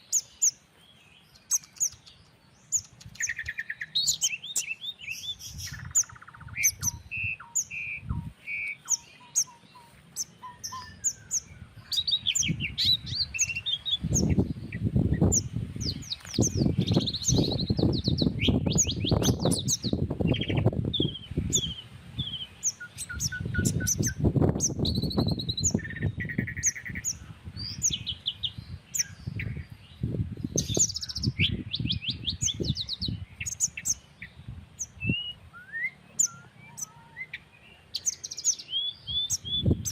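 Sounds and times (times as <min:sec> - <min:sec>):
songbirds chirping and trilling: 0:00.0 - 0:39.9
wind rumble on microphone: 0:02.7 - 0:09.5, 0:10.4 - 0:35.6, 0:38.5 - 0:39.9.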